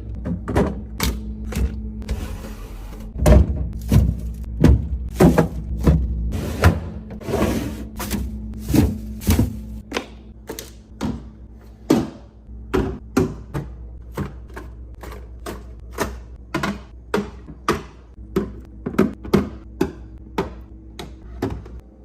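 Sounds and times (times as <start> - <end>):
items tapping on fridge shelves: 0.0 - 2.0, 3.0 - 21.9.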